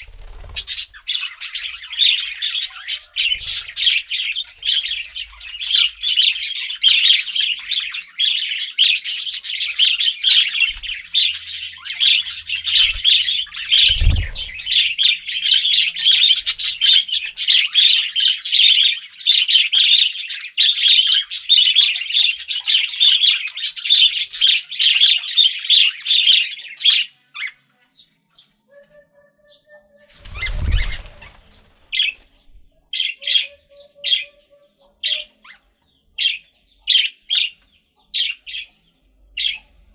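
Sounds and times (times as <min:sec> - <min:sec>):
budgerigars chattering and warbling: 0:00.0 - 0:27.6, 0:30.1 - 0:39.9.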